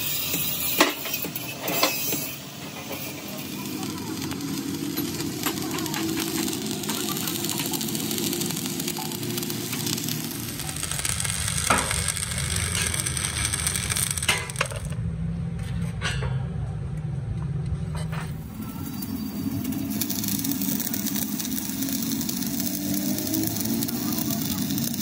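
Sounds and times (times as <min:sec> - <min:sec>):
welding arc crackling: 0:00.0 - 0:15.0, 0:18.3 - 0:25.0.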